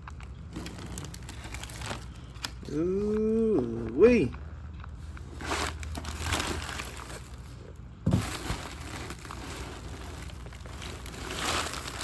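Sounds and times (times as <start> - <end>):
packaging rustling: 0.0 - 2.7, 5.0 - 12.0.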